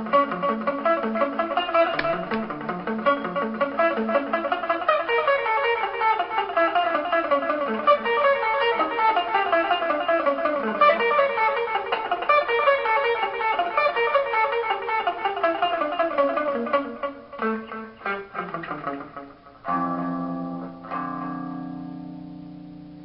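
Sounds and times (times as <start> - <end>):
electric guitar lead runs: 0.0 - 23.0.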